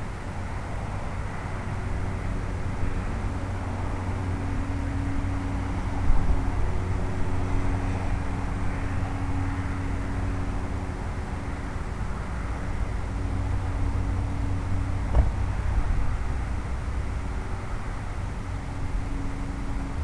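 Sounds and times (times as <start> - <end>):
model airplane rolling on pavement: 0.0 - 20.0.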